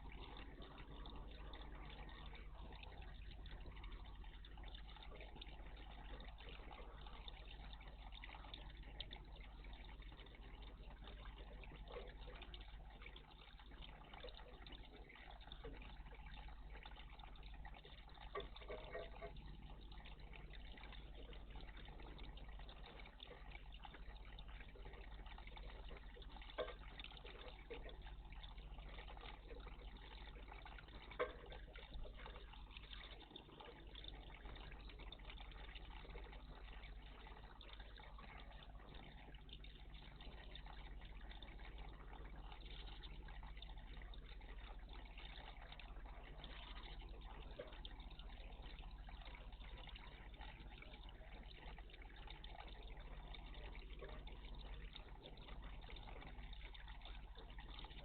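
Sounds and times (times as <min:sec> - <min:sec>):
low steady hum: 0:00.0 - 0:58.0
water trickling in bird bath: 0:00.0 - 0:58.0.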